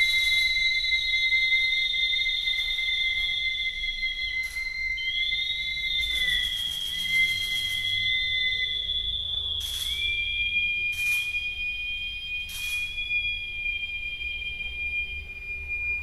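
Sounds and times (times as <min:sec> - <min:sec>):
duct flutes holding high notes: 0:00.0 - 0:15.5.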